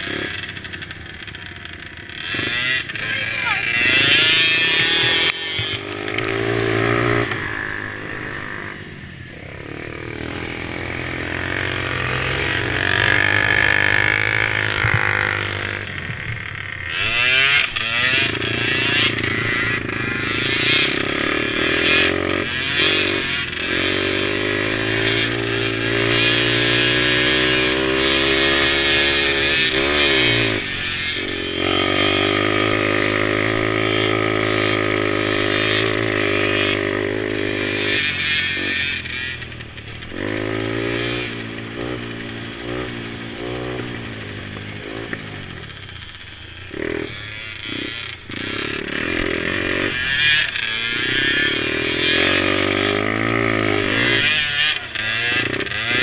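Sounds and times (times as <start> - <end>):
mini quad engines revving: 0.0 - 56.0.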